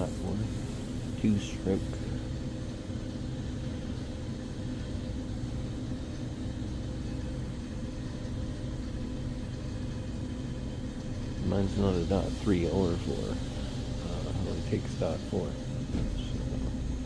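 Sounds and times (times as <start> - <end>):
machinery droning hum: 0.0 - 17.0.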